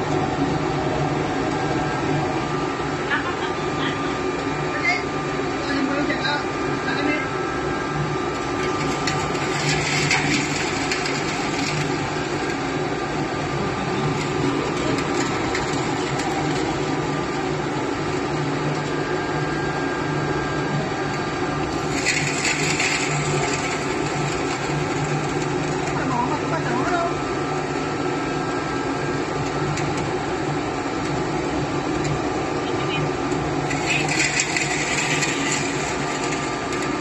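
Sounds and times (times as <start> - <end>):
extruder motor running: 0.0 - 37.0.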